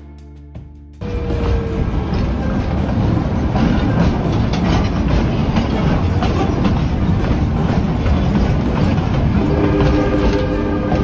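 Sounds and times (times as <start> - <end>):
train wheels clacking over rails: 1.0 - 11.0.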